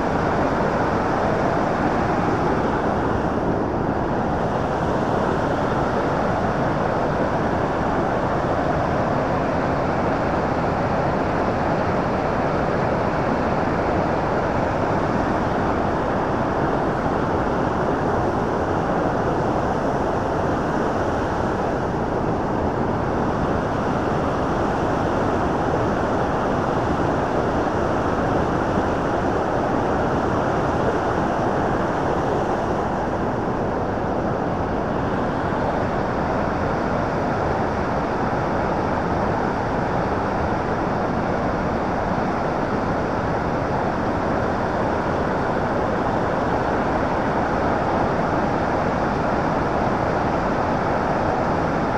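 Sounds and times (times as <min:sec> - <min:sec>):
river rushing through rapids: 0:00.0 - 0:51.9.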